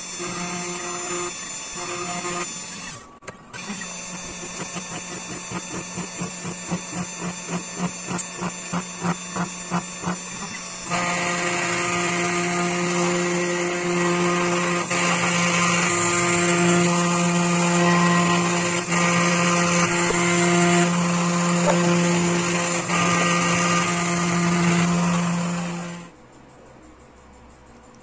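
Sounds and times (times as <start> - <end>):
cnc spindle motor whine: 0.0 - 26.2.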